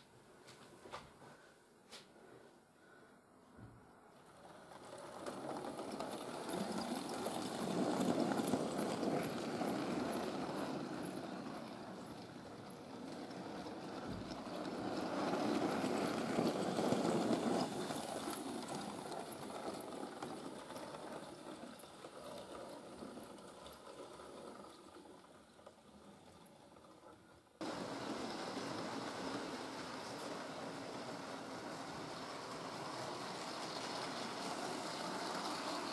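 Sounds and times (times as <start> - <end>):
model train wheels and motors rumbling: 3.6 - 35.9.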